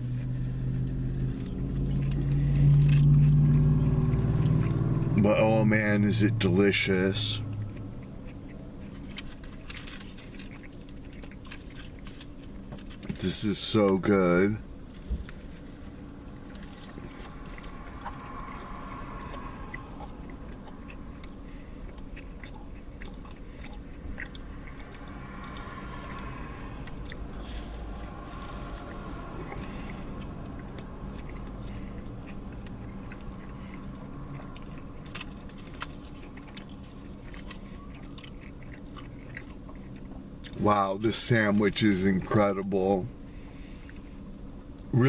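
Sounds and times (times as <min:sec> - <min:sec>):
person chewing food: 0:00.0 - 0:05.2, 0:05.8 - 0:13.2, 0:14.7 - 0:40.6, 0:43.4 - 0:44.9
steady low hum: 0:00.0 - 0:45.0.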